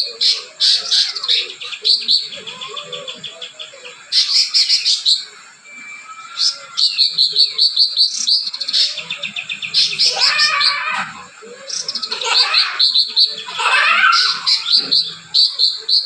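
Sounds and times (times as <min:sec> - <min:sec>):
songbird chirping and warbling: 0:00.0 - 0:16.0.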